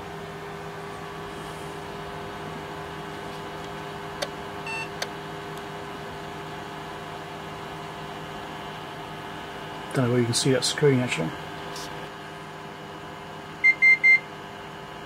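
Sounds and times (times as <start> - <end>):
equipment fan hum: 0.0 - 15.0.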